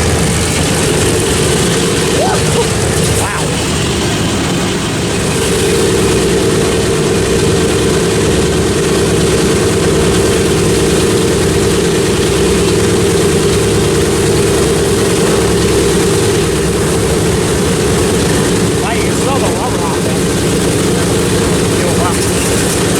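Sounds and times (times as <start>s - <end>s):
propeller aircraft engines: 0.0s - 22.9s.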